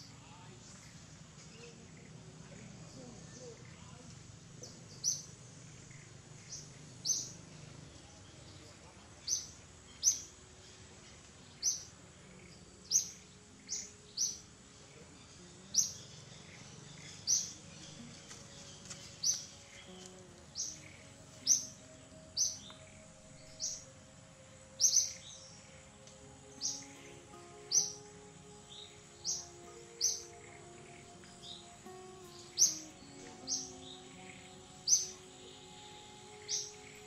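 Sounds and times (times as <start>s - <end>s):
bird chirping: 0.0s - 37.0s
faint background music: 0.0s - 37.0s.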